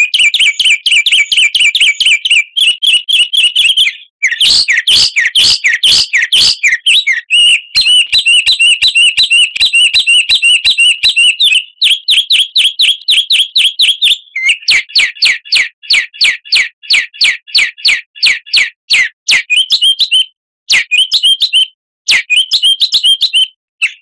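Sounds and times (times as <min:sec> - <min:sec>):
songbird high chirps: 0:00.0 - 0:24.0.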